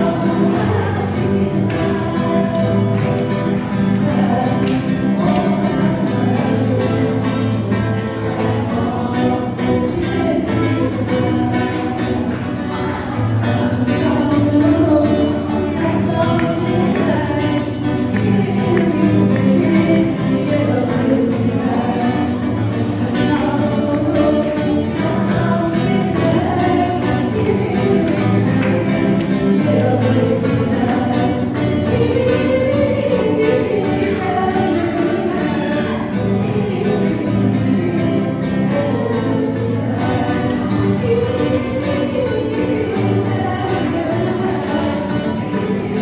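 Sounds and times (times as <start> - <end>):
person singing: 0.0 - 46.0.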